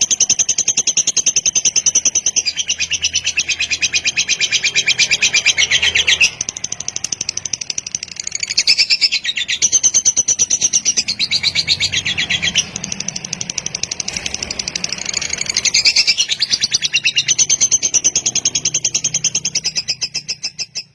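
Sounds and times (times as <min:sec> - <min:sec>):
lovebird rapid high chirps: 0:00.0 - 0:20.9.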